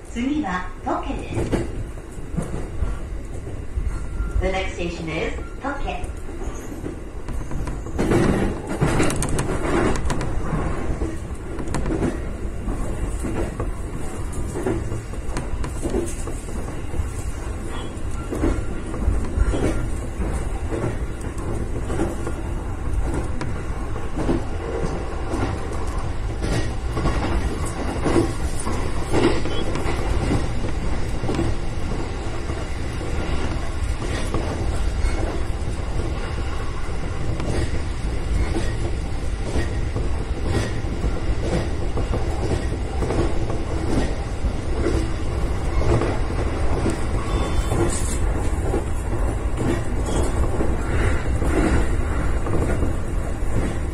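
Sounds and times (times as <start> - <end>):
train rumbling at speed: 0.0 - 53.9.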